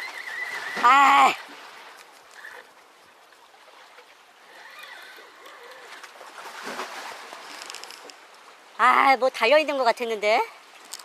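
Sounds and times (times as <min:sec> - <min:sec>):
sea water washing: 0:00.0 - 0:08.9.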